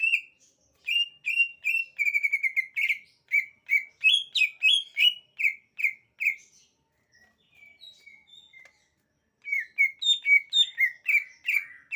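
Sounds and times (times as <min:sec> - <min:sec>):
bird singing repeated notes: 0:00.0 - 0:11.9.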